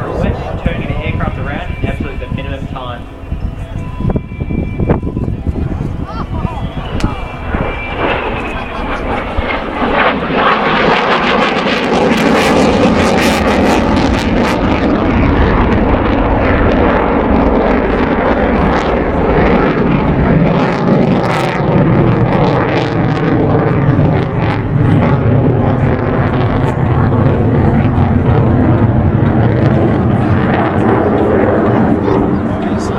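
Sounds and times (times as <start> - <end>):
aircraft engine roar: 0.0 - 32.9.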